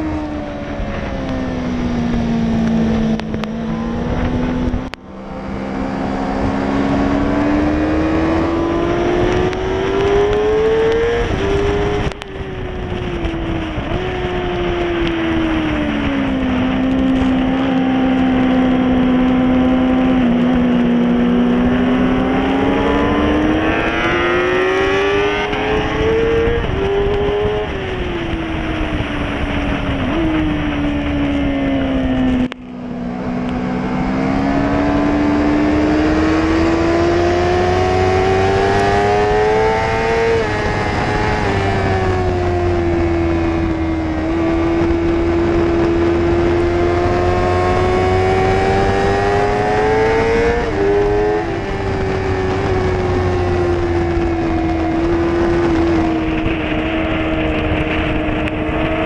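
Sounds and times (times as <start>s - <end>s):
motorcycle engine revving: 0.0s - 59.0s
wind and road rush: 0.0s - 59.0s.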